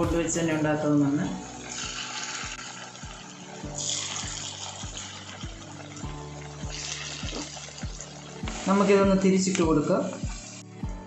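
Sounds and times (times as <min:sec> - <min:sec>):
background music with beat: 0:00.0 - 0:11.0
oil sizzling and bubbling: 0:01.1 - 0:10.9.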